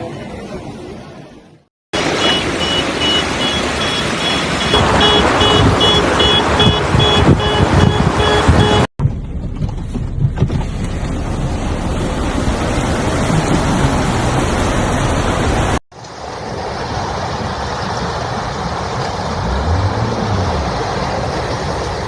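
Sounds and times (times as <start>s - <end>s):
rushing floodwater: 2.0s - 8.9s, 10.4s - 22.0s.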